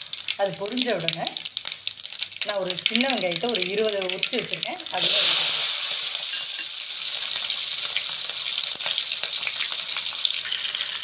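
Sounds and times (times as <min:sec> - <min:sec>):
shallots sizzling in hot oil: 0:00.0 - 0:11.0.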